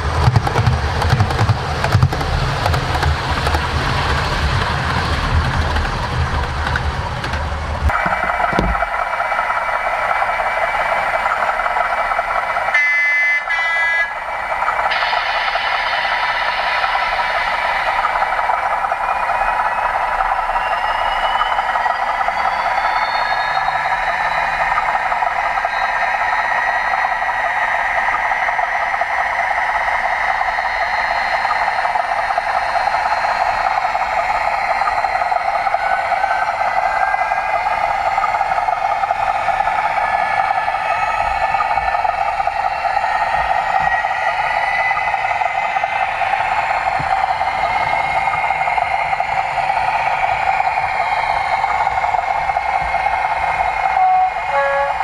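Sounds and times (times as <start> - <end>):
model train running: 0.0 - 55.0.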